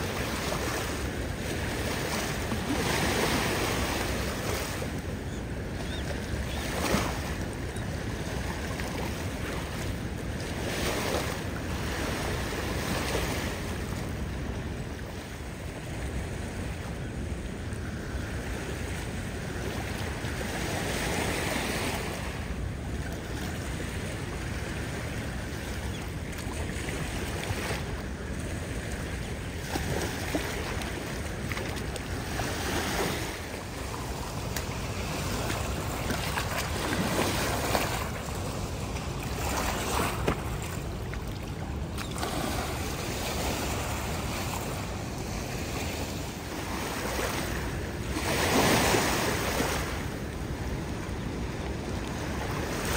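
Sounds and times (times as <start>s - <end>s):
waves lapping on stony shore: 0.0s - 52.9s.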